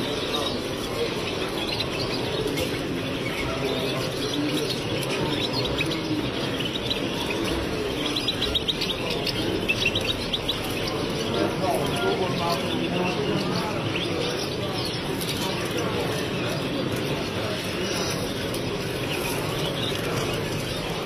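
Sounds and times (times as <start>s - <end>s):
finches chirping: 0.0s - 21.0s
low background hubbub: 0.0s - 21.0s.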